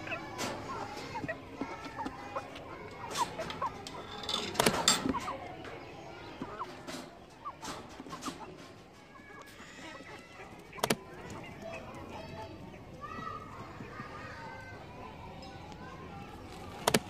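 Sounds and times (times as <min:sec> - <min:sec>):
chickens clucking and peeping: 0:00.0 - 0:17.0.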